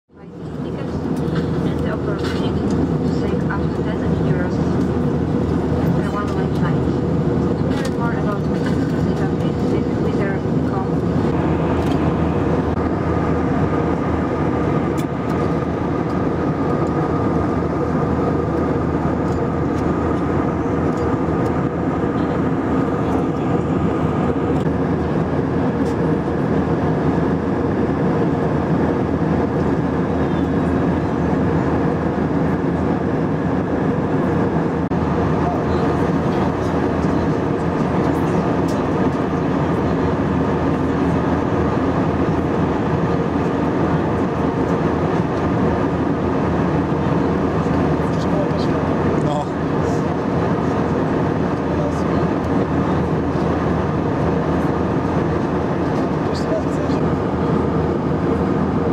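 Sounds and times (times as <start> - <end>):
jet engines droning: 0.1 - 58.9
steady hum tones: 0.1 - 58.9.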